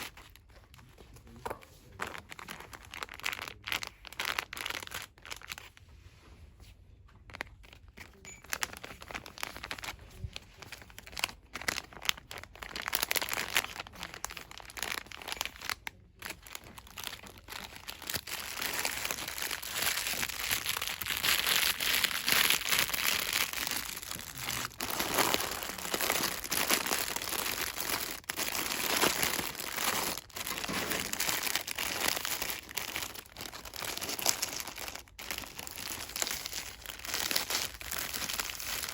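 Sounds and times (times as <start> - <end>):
packaging rustling and crinkling: 0.0 - 5.9, 7.2 - 38.9.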